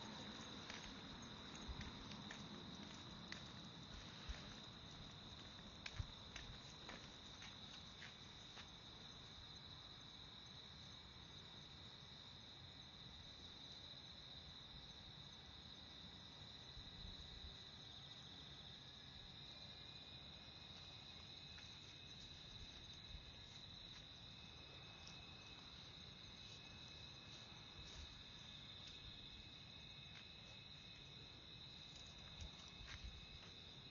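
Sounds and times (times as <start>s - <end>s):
insects chirring: 0.0s - 33.9s.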